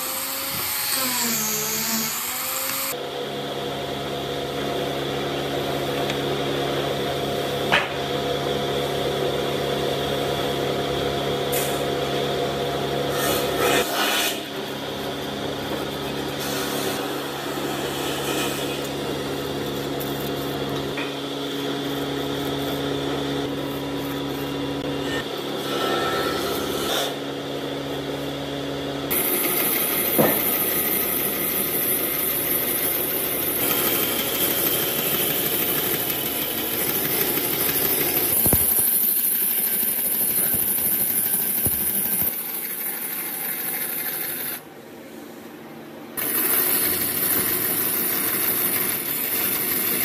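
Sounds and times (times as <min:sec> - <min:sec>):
angle grinder motor hum: 0:00.0 - 0:44.7, 0:46.2 - 0:50.0.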